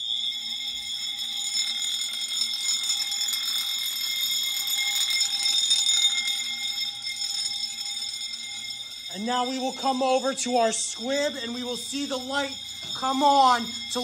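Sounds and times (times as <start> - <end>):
fire alarm bell and horn ringing: 0.0 - 14.0.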